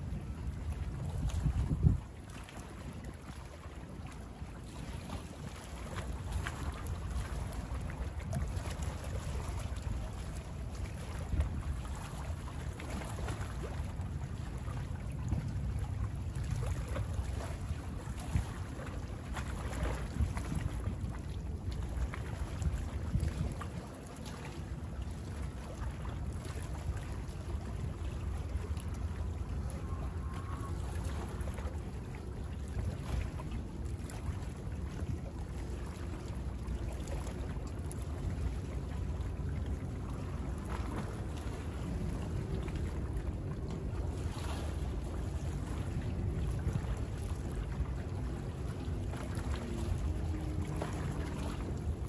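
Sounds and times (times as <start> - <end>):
waves lapping against shore: 0.0 - 52.0.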